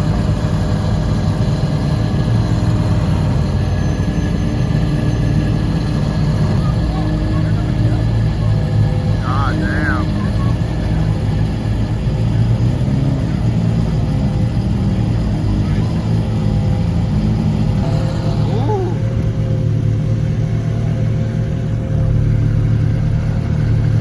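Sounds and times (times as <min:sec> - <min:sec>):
car engine idling: 0:00.0 - 0:24.0
crowd chatter: 0:00.0 - 0:24.0.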